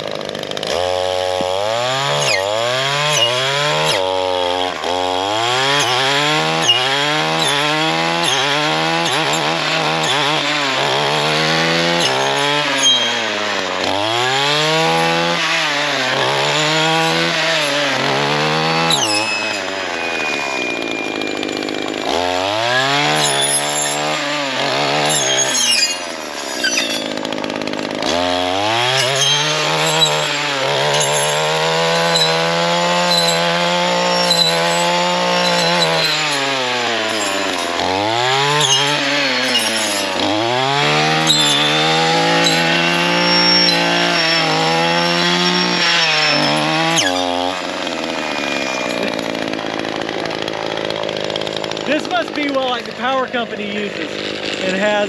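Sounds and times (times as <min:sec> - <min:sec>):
gas trimmer engine revving: 0:00.0 - 0:55.0.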